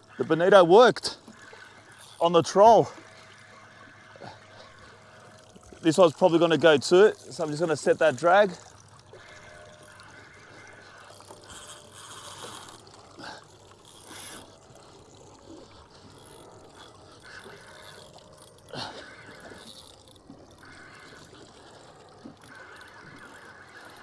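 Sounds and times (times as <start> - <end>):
fishing reel ratchet whirring: 0.0 - 24.0.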